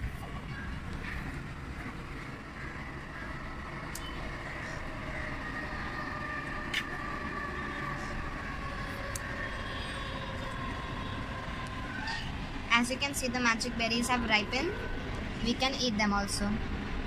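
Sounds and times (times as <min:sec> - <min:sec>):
distant city traffic hum: 0:00.0 - 0:17.0.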